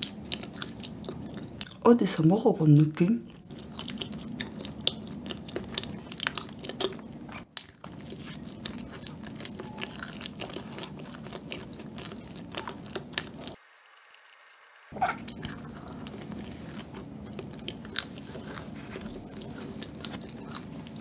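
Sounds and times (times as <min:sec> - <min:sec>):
chewing with wet mouth clicks: 0:00.0 - 0:01.8, 0:02.7 - 0:13.6, 0:15.0 - 0:21.0
low steady hum: 0:00.0 - 0:21.0.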